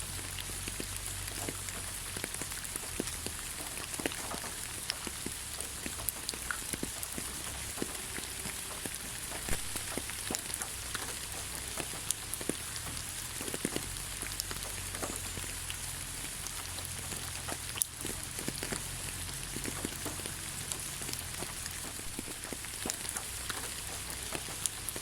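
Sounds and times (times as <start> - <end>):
raindrops ticking: 0.0 - 25.0
steady rain falling: 0.0 - 25.0.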